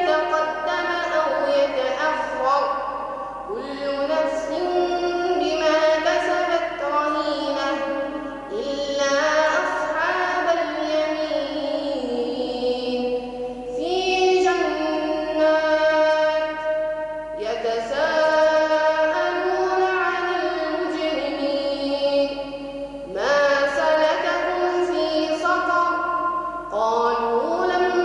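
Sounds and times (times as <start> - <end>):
boy chanting melodically: 0.0 - 28.0.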